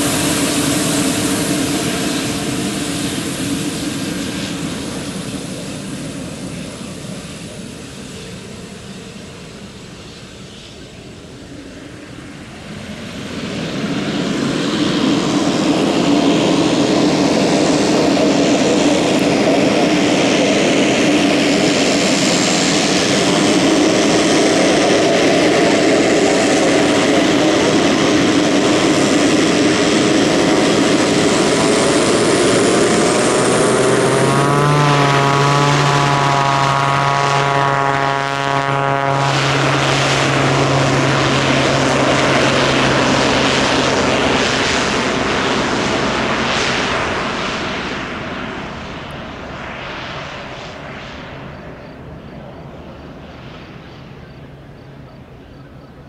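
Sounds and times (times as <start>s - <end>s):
deep droning propeller hum: 0.0s - 56.0s
turboprop turbine whine: 0.0s - 56.0s.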